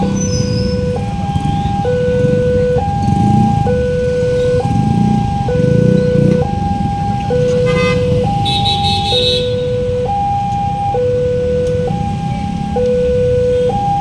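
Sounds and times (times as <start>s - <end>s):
two-tone warning siren: 0.0s - 14.0s.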